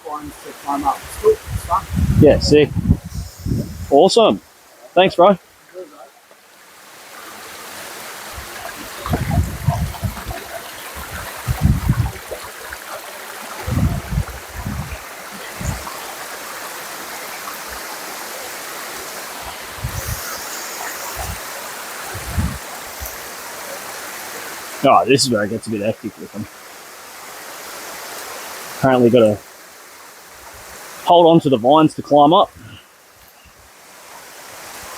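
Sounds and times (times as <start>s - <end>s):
creek water rushing: 0.0s - 34.9s.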